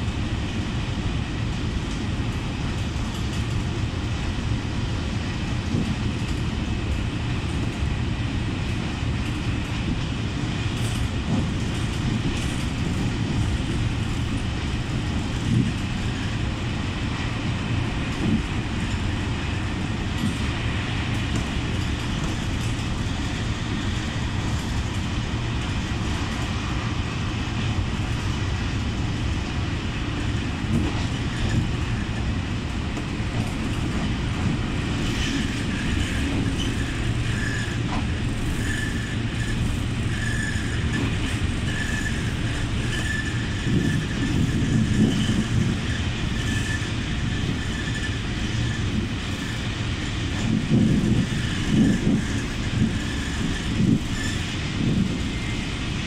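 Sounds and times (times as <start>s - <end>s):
train rumble inside carriage: 0.0s - 56.0s.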